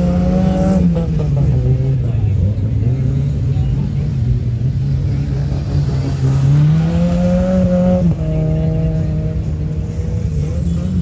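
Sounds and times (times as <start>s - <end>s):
car engine revving hard: 0.0s - 3.6s, 5.0s - 11.0s.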